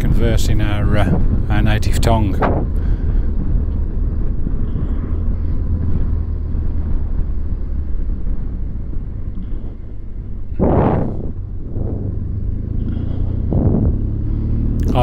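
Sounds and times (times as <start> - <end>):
motorcycle engine running: 0.0 - 15.0
wind noise on microphone: 0.0 - 15.0
car passing with whoosh: 2.3 - 15.0.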